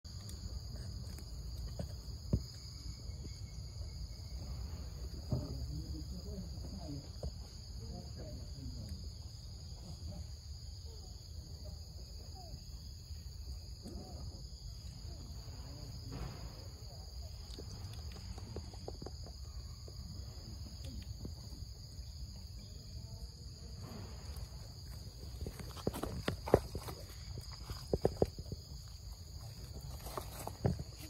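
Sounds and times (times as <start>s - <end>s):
high-pitched insect chorus: 0.1s - 31.0s.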